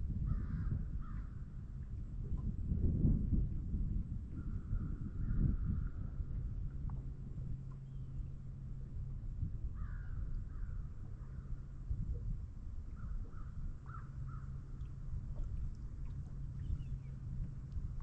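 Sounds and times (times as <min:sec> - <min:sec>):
low rumble: 0:00.0 - 0:18.0
steady low hum: 0:00.0 - 0:18.0.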